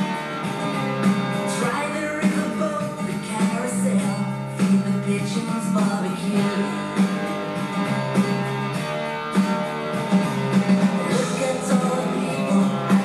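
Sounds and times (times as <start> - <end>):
guitar music: 0.0 - 13.0.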